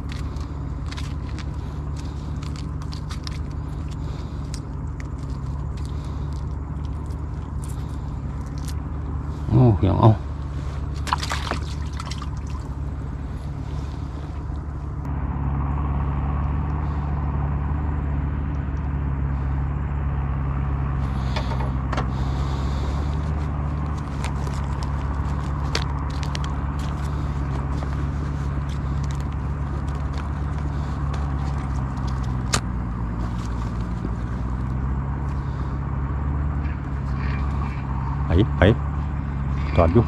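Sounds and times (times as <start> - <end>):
motor droning: 0.0 - 40.0.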